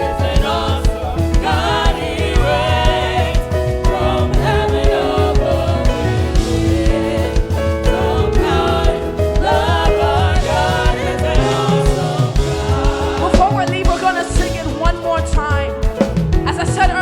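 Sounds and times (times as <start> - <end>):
choir singing gospel: 0.0 - 15.4
band playing: 0.0 - 17.0
steady drum beat: 0.0 - 17.0.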